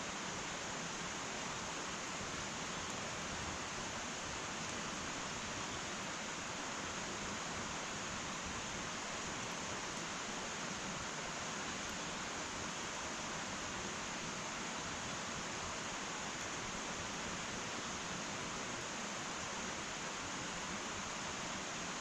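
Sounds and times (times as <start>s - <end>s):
wood fire hissing: 0.0s - 22.0s.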